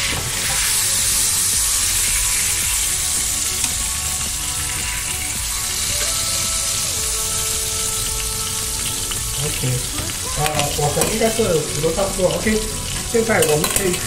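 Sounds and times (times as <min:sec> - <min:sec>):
steak sizzling in frying pan: 0:00.0 - 0:14.0.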